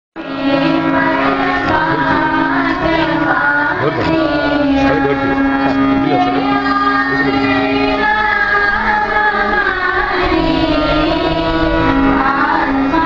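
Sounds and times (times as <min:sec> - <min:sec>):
children singing together: 0:00.2 - 0:13.0
held musical drone: 0:00.2 - 0:13.0.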